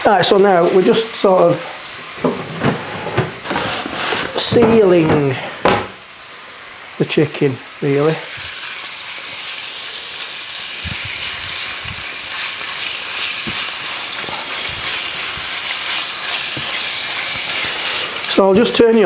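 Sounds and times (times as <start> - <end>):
chicken sizzling in oil: 0.0 - 2.4, 3.4 - 19.0.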